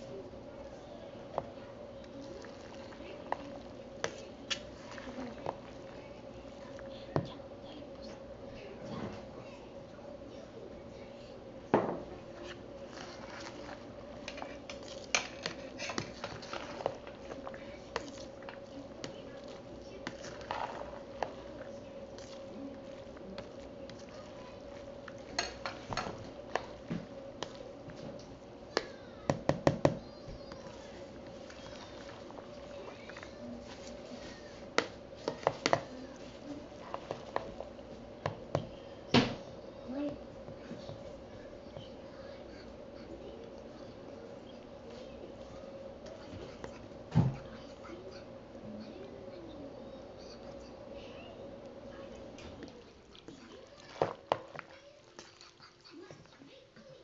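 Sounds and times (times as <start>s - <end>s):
spoon stirring wet food: 0.0s - 8.4s, 11.5s - 49.3s, 50.0s - 56.7s.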